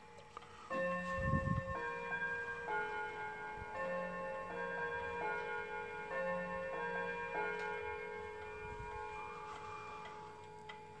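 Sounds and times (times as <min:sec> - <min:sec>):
wall clock chime melody: 0:00.0 - 0:11.0.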